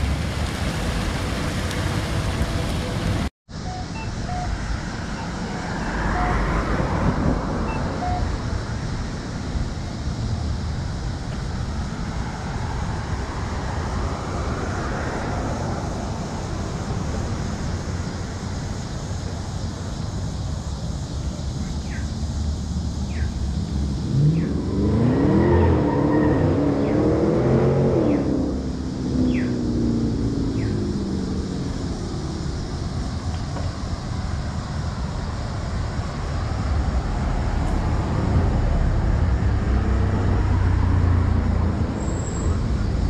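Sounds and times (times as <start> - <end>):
low traffic rumble: 0.0 - 43.0
passing cars hissing: 0.0 - 43.0.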